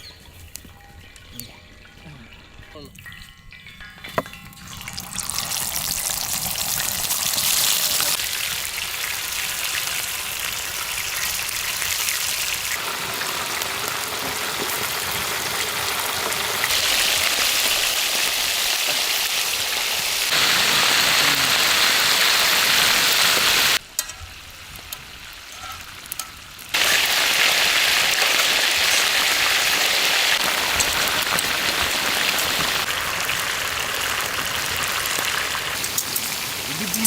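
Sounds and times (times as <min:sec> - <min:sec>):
chicken deep-frying in hot oil: 0:04.7 - 0:37.0.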